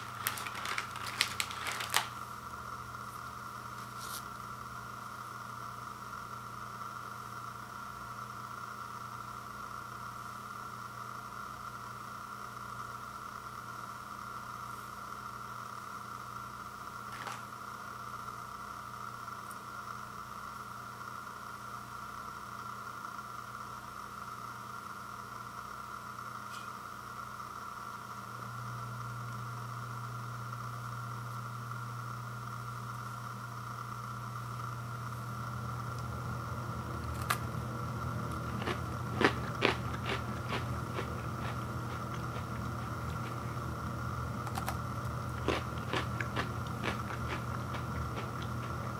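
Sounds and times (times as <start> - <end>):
background hum and hiss: 0.0 - 48.9.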